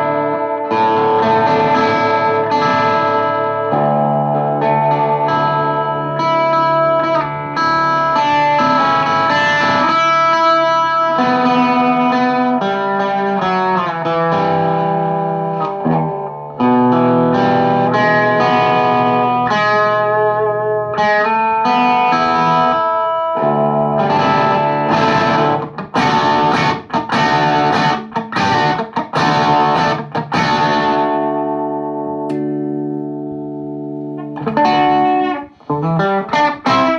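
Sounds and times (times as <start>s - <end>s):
distorted electric guitar chords: 0.0s - 36.9s.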